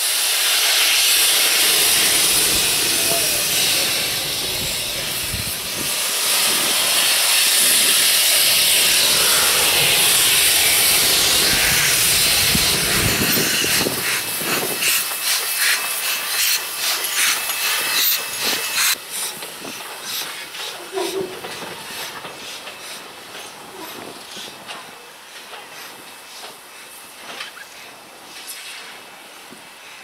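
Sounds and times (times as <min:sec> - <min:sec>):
steam exhaust beats: 0:00.0 - 0:30.0
steam locomotive hissing: 0:00.0 - 0:30.0.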